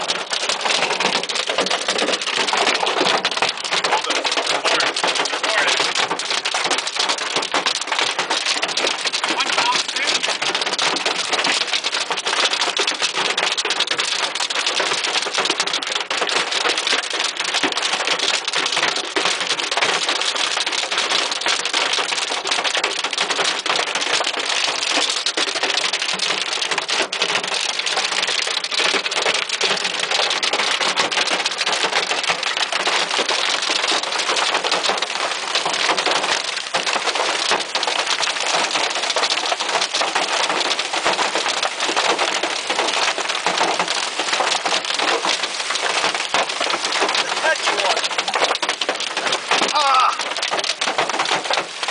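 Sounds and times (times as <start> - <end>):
hail clattering: 0.0 - 51.9
heavy rain roar: 0.0 - 51.9.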